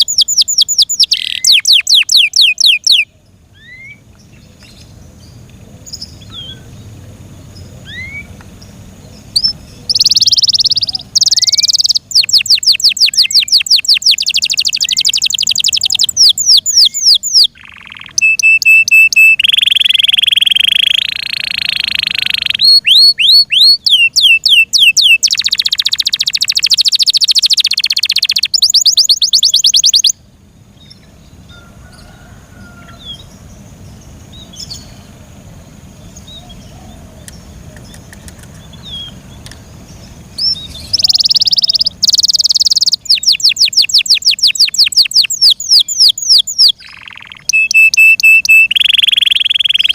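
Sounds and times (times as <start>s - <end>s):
canary singing: 0.0s - 30.2s, 35.8s - 49.9s.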